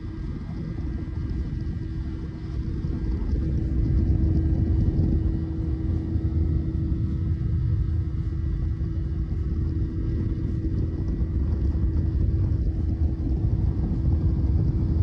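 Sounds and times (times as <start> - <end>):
outboard motor rumble: 0.0 - 15.0.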